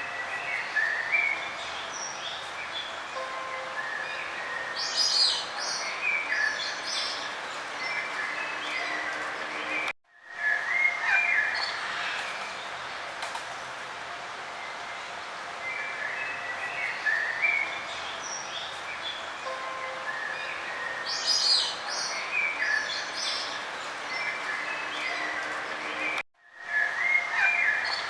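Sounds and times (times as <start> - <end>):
outdoor background hiss: 0.0 - 28.0
songbirds chirping and trilling: 0.0 - 28.0.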